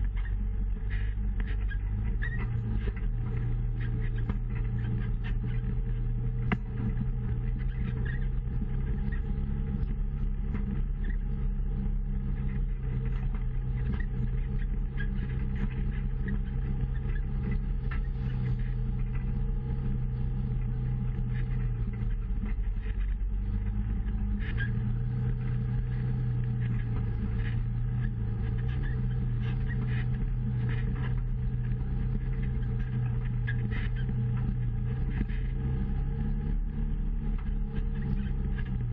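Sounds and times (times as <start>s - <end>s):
body and suspension rattles: 0.0s - 38.9s
utility vehicle engine running: 0.0s - 38.9s.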